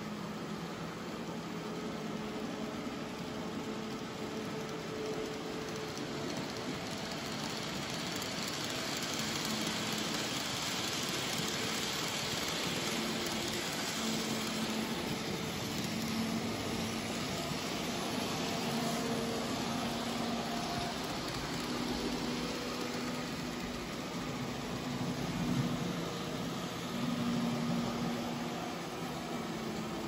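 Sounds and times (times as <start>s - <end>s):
model train wheels whirring: 0.0s - 30.0s.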